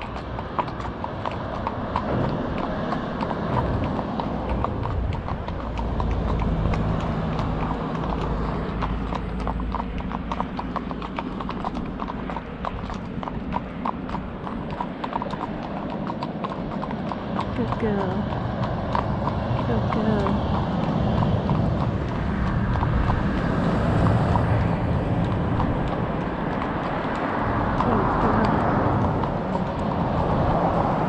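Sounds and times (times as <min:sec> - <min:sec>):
hooves clip-clopping on tarmac: 0:00.0 - 0:31.0.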